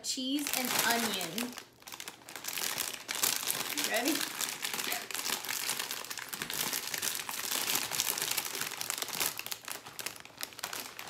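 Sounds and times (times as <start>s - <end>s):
foil snack bag crinkling: 0.3s - 11.0s.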